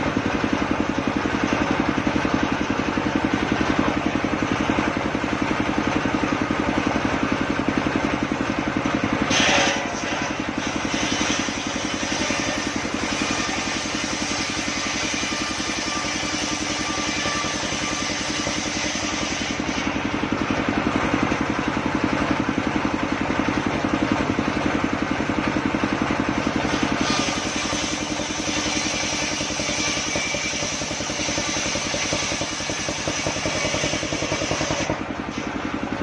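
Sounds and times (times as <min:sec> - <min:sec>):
sawmill engine running: 0:00.0 - 0:36.0.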